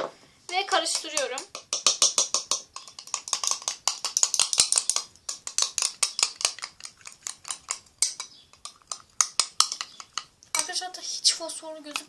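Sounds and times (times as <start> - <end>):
spoon stirring slime in bowl: 0.5 - 11.0.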